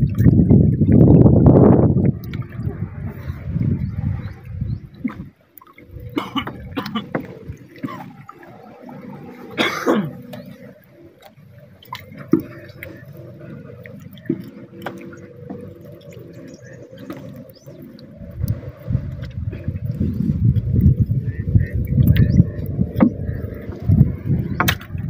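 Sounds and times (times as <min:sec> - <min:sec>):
water dripping and splashing: 0:00.0 - 0:25.0.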